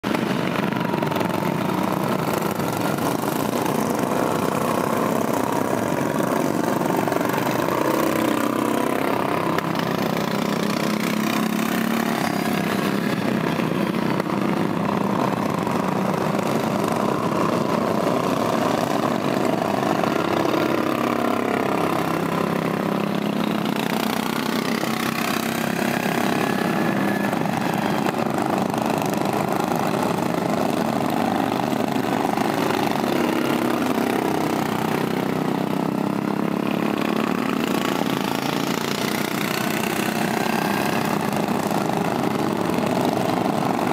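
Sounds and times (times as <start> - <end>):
lawn mower engines droning: 0.0 - 43.9.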